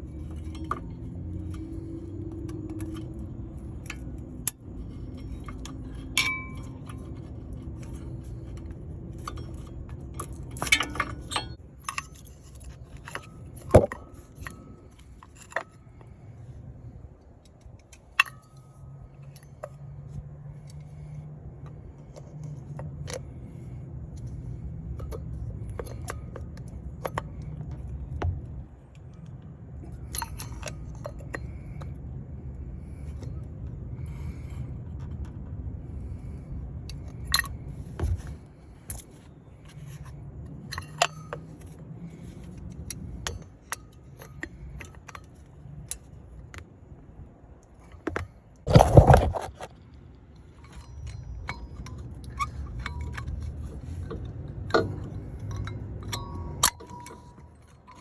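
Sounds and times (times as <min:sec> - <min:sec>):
metal tools clinking and scraping: 0:00.0 - 0:46.6, 0:47.7 - 0:58.0
low steady hum: 0:00.0 - 0:58.0.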